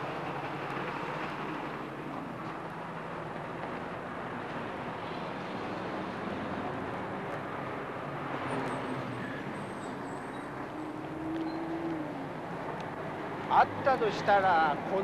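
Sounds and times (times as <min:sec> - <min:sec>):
street traffic passing: 0:00.0 - 0:15.0.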